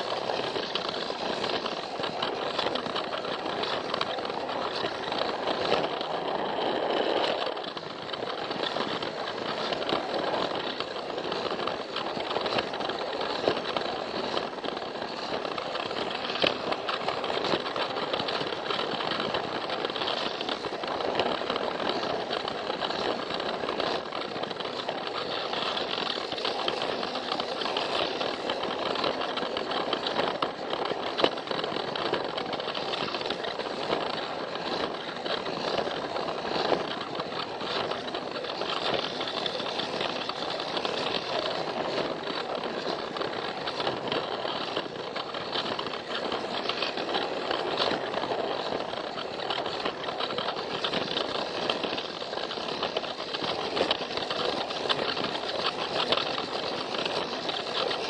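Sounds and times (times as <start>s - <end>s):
toy train clicking over track joints: 0.0s - 58.0s
toy train motor whirring: 0.0s - 58.0s.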